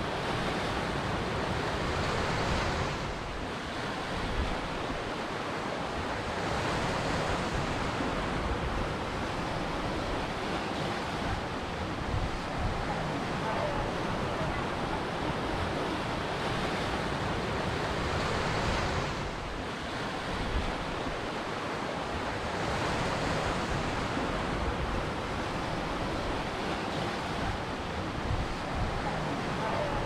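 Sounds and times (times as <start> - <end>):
ocean surf washing ashore: 0.0 - 30.0.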